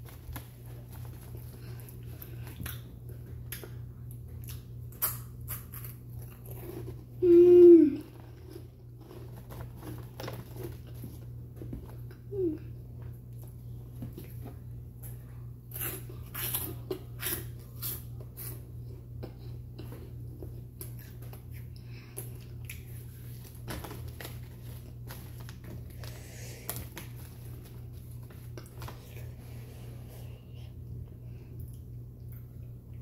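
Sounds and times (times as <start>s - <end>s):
chewing crunchy chips: 0.0s - 7.2s, 8.0s - 29.2s
steady low hum: 0.0s - 33.0s.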